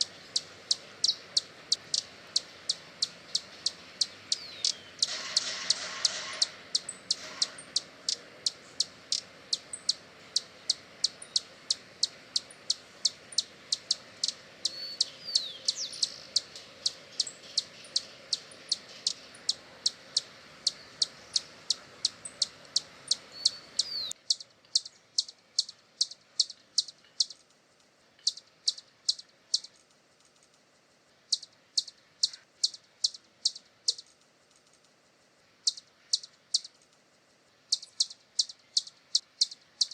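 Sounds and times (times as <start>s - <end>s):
background hiss: 0.0s - 39.9s
hummingbird chipping: 0.0s - 39.9s.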